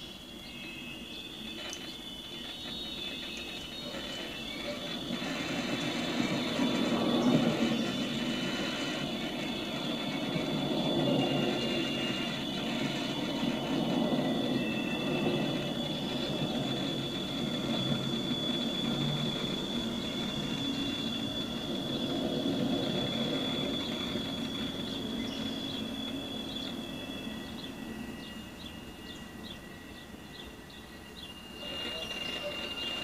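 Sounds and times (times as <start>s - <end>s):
low rumble of train cars: 0.0s - 33.0s
train wheels squealing on rails: 0.0s - 33.0s.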